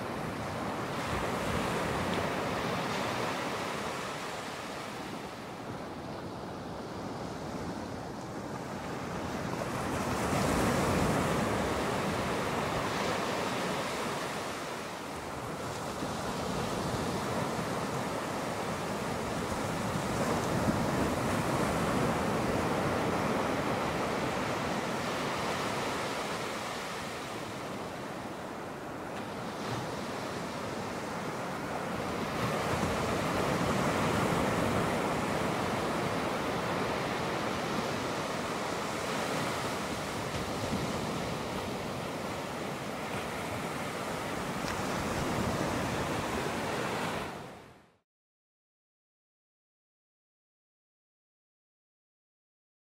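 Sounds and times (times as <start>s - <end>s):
ocean waves washing in: 0.0s - 47.9s.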